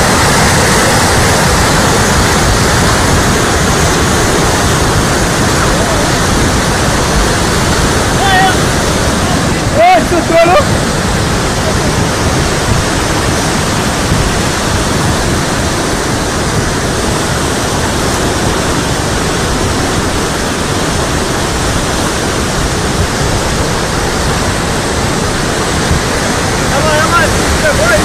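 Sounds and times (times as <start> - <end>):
torrent of rushing water: 0.0 - 28.0.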